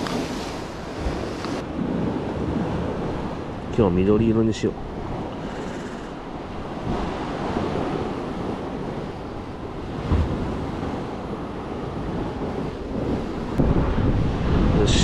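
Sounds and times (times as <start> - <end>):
sea waves against quay: 0.0 - 15.0
wind noise on microphone: 0.0 - 15.0.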